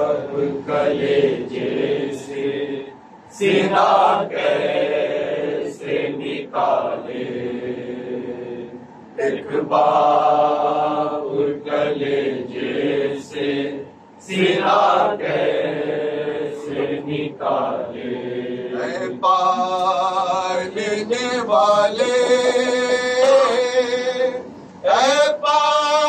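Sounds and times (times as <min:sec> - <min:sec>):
men chanting a lament: 0:00.0 - 0:26.0.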